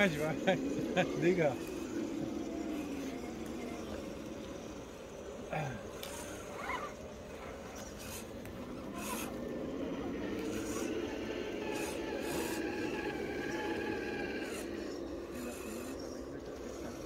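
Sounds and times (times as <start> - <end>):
electric motor whining: 0.0 - 17.0
tyres scraping over ground: 0.0 - 17.0.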